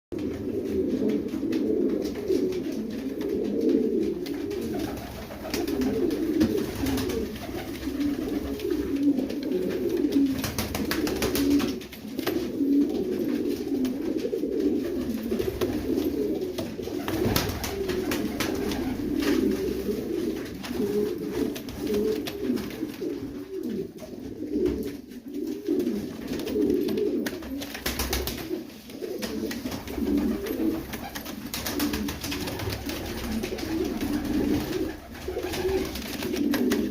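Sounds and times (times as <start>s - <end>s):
pigeons cooing: 0.2s - 36.9s.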